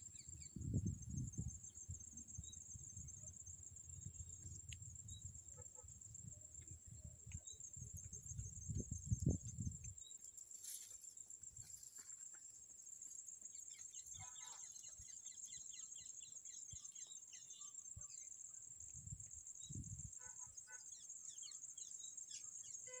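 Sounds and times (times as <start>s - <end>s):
insect chirring: 0.0s - 23.0s.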